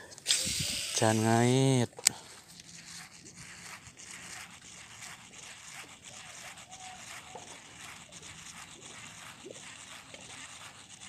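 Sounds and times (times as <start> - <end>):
fishing reel ticking: 0.0 - 11.0.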